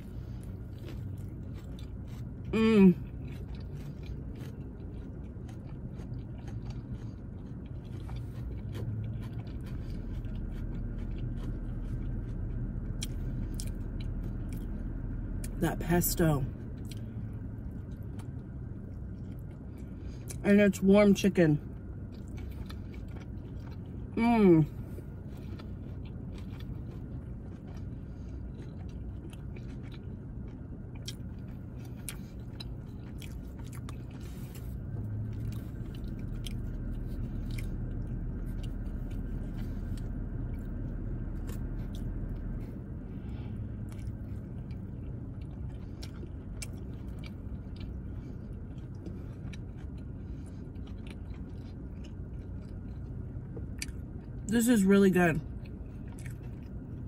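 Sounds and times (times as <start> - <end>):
wet chewing: 0.0 - 16.0, 16.7 - 20.4, 21.0 - 54.5, 55.5 - 57.0
low steady hum: 0.0 - 57.0.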